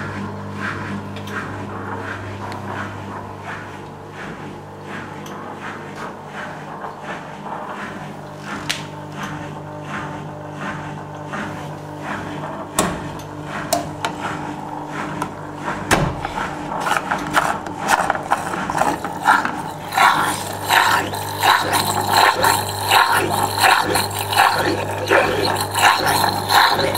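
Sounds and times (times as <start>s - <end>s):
drain pump humming: 0.0s - 26.9s.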